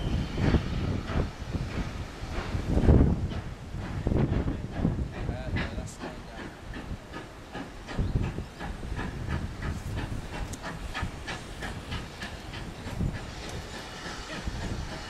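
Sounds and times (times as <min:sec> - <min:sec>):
steam locomotive exhaust chuffing: 0:00.0 - 0:15.0.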